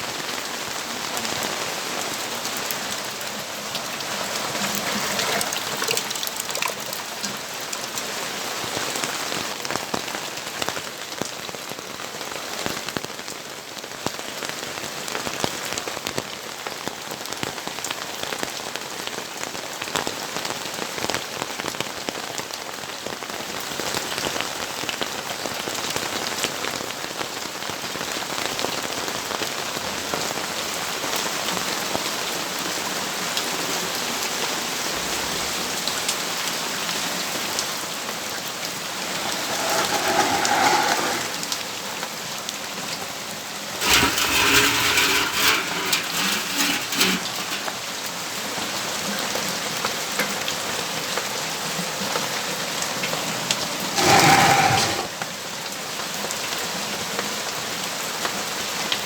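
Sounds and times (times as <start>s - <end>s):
rain splashing on surfaces: 0.0s - 39.5s, 47.3s - 59.0s.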